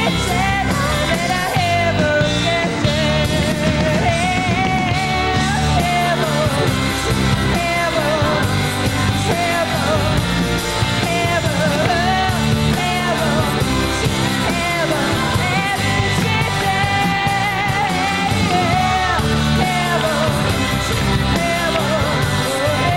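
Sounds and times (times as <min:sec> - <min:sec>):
live rock band: 0:00.0 - 0:22.9
woman singing: 0:00.0 - 0:22.9.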